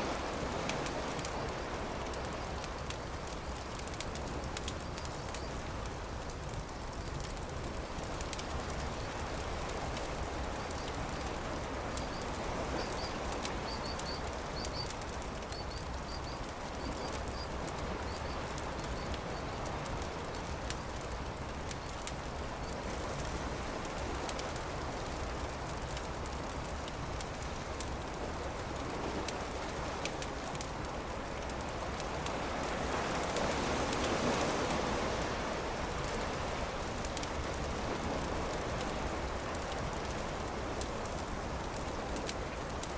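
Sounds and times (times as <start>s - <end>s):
campfire crackling: 0.0s - 42.9s
steady rushing wash: 0.0s - 42.9s.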